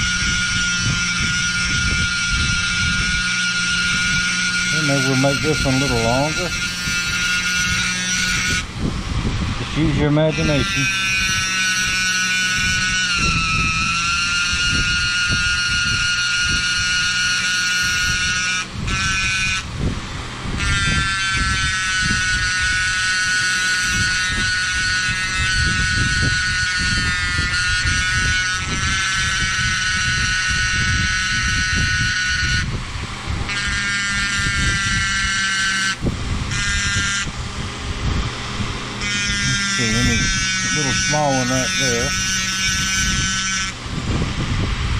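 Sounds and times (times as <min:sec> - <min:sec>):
fan humming: 0:00.0 - 0:44.9
rotary tool whining: 0:00.0 - 0:44.9.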